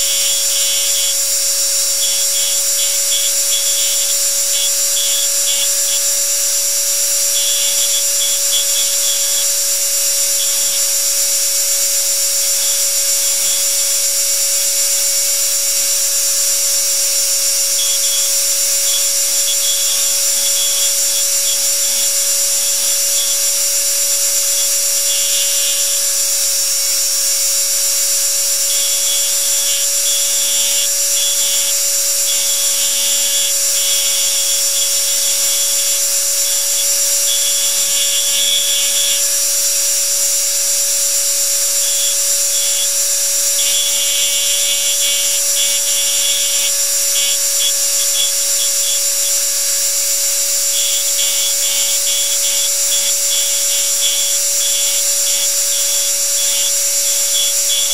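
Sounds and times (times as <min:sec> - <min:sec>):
buzz of cutting strokes: 0:00.0 - 0:57.9
engraving handpiece whine: 0:00.0 - 0:57.9.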